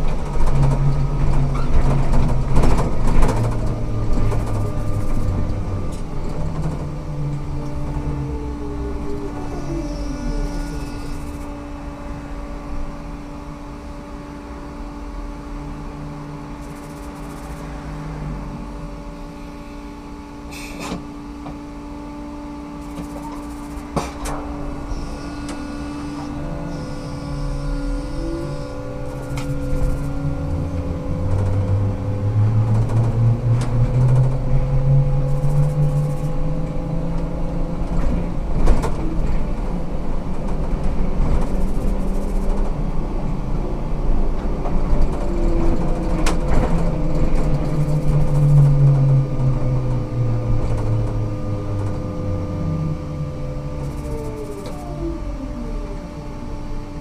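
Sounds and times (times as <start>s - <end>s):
trolleybus electrical hum: 0.0s - 57.0s
trolleybus motor whine rising: 0.0s - 57.0s.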